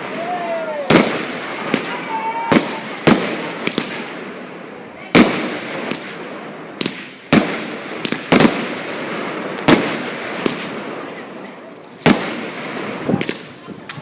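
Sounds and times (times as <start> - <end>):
fireworks banging: 0.0 - 14.0.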